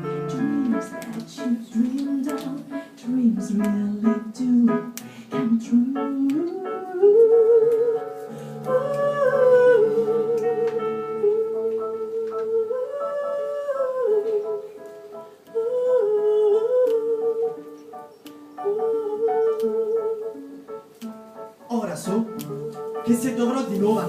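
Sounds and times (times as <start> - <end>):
woman humming wordless melody: 0.0 - 21.2, 22.3 - 23.0.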